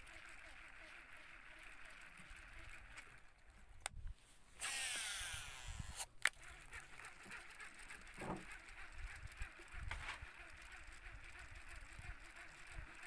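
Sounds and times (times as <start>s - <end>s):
fishing line whirring off spool: 0.0s - 3.9s, 4.5s - 13.0s
fishing reel click: 0.0s - 4.0s, 4.6s - 13.0s.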